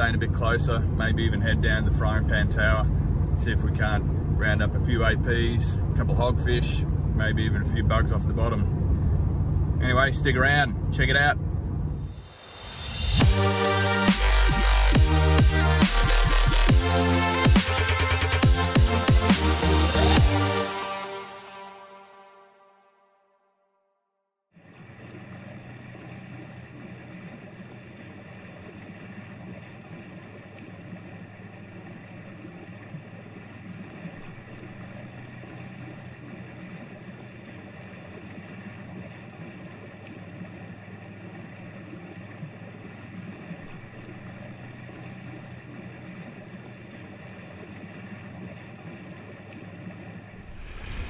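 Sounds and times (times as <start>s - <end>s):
motorboat engine droning: 0.0s - 23.1s, 24.6s - 51.0s.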